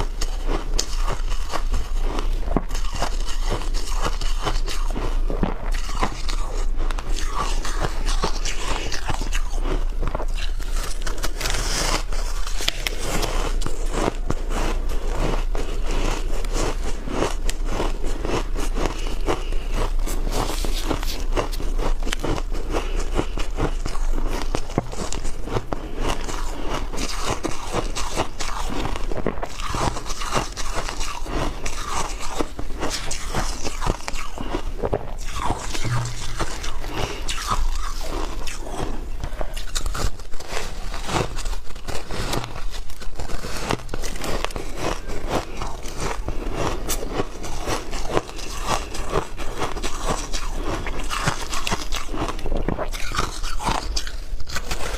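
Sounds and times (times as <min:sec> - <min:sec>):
chewing shaved ice: 0:00.0 - 0:54.9.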